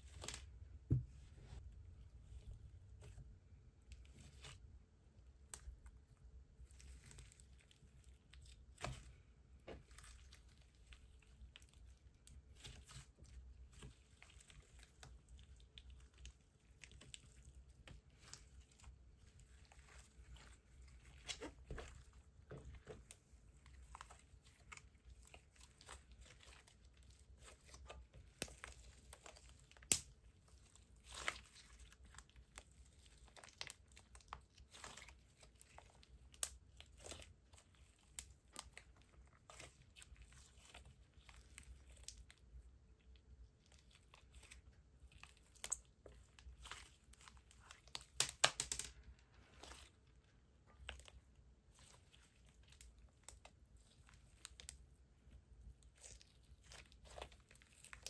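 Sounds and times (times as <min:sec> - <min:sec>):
slime crackling and popping: 0:06.6 - 0:42.4, 0:43.7 - 0:54.9, 0:55.8 - 0:58.0.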